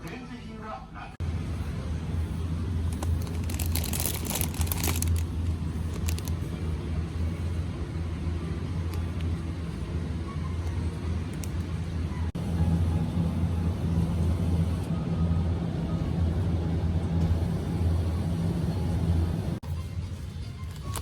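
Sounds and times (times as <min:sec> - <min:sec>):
vehicle rumbling in motion: 0:01.2 - 0:21.0.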